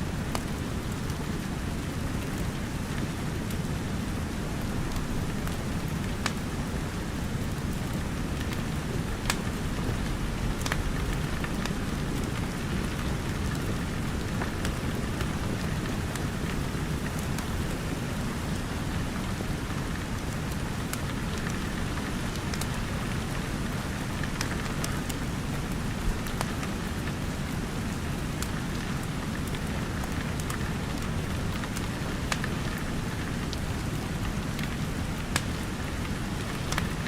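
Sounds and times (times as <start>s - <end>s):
rain on a roof and windows: 0.0s - 37.0s
wood fire crackling and popping: 0.1s - 37.0s.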